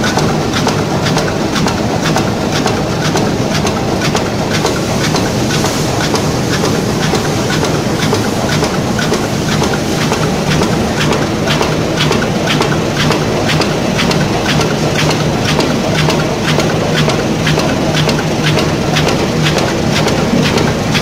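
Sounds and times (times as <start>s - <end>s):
industrial machine clattering: 0.0s - 21.0s.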